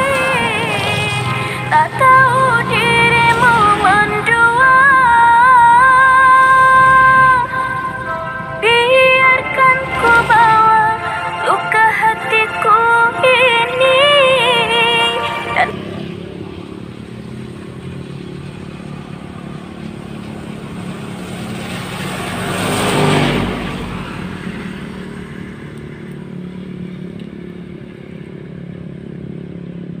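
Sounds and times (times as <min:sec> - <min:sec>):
vehicle passing by: 0:00.0 - 0:27.2
low traffic hum: 0:00.0 - 0:30.0.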